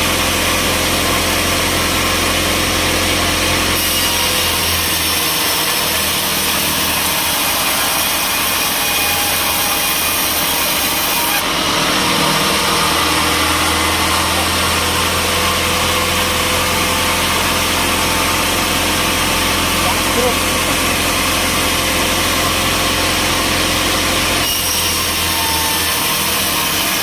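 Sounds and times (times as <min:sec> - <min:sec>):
saw cutting through wood: 0:00.0 - 0:27.0
sawmill machinery running: 0:00.0 - 0:27.0.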